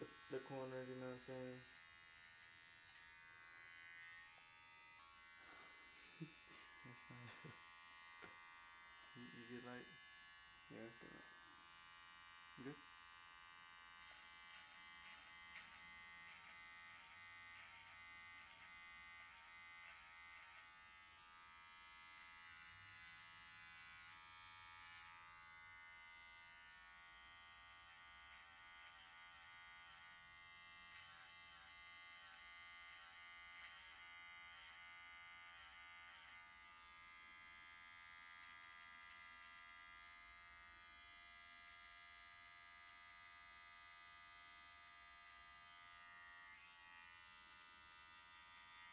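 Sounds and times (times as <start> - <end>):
electric hair trimmer buzzing: 0.0 - 48.9.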